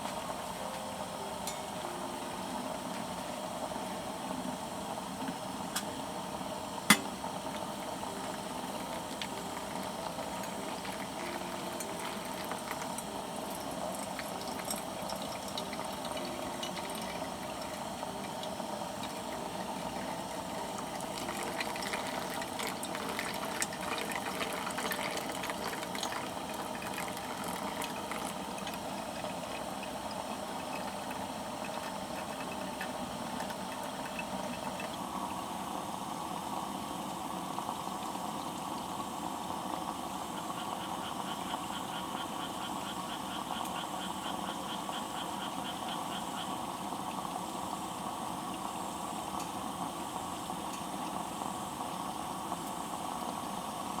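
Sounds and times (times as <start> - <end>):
campfire hissing and crackling: 0.0 - 54.0.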